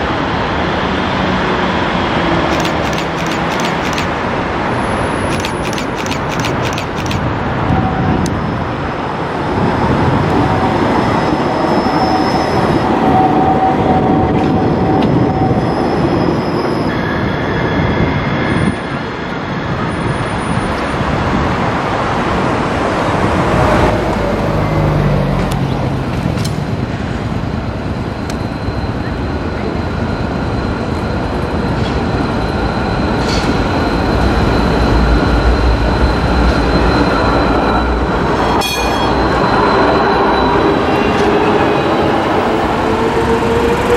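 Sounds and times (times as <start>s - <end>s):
tram passing with deep rumble: 0.0s - 43.9s
tram rolling on rails: 0.0s - 43.9s.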